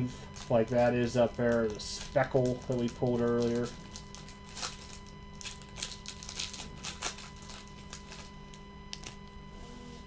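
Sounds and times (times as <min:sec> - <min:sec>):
foil wrapper crinkling: 0:00.3 - 0:09.3.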